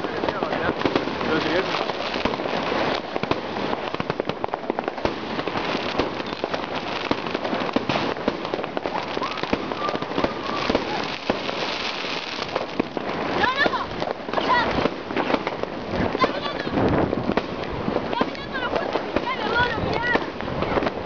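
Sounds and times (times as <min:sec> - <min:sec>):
fireworks crackling and banging: 0:00.0 - 0:21.0.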